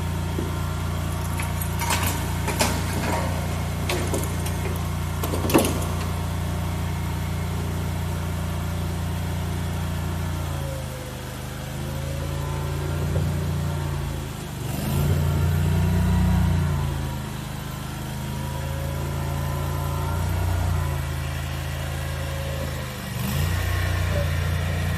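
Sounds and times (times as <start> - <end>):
small engine running: 0.0 - 24.9.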